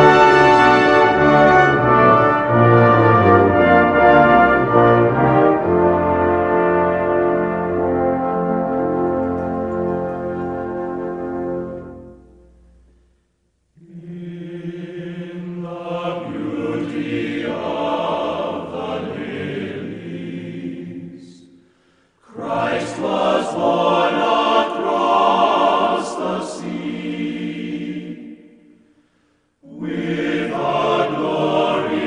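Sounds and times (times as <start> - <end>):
choir singing slowly: 0.0 - 12.5, 13.7 - 32.0.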